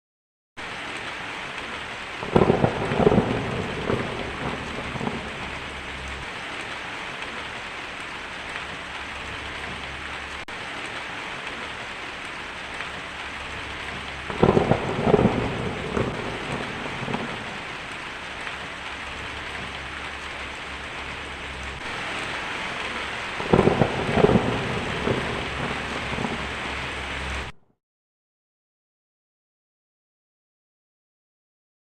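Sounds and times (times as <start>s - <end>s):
steady rain falling: 0.6s - 27.6s
thunder rumbling: 0.8s - 27.6s.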